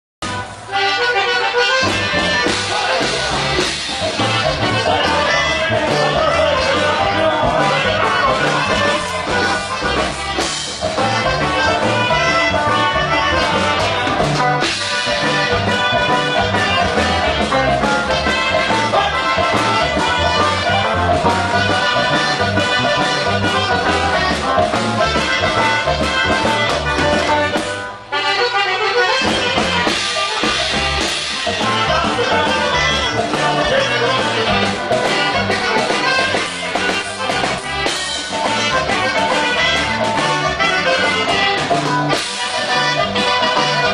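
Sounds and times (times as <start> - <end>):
band playing accordion music: 0.2 - 43.9.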